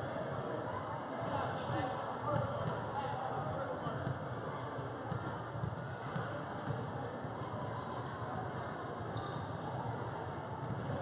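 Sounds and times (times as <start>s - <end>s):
crowd chatter in echoing hall: 0.0s - 11.0s.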